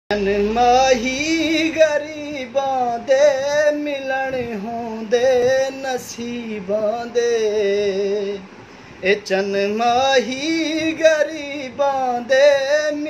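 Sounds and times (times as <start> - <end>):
man singing unaccompanied: 0.1 - 13.0.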